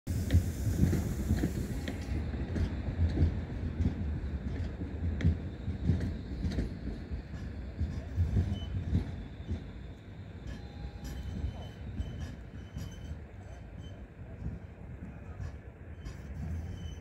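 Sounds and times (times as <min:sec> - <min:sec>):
tram rumbling: 0:00.1 - 0:17.0.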